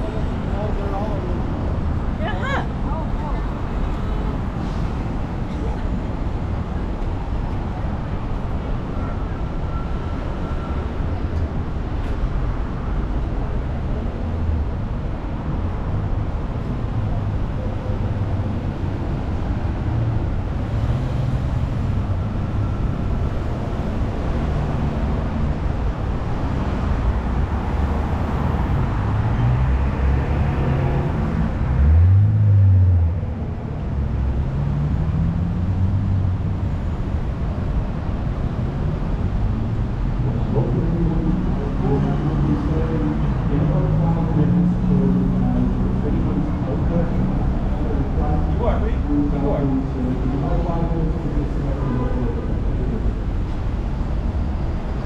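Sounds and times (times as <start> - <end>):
vehicle engines passing: 0.0 - 55.0.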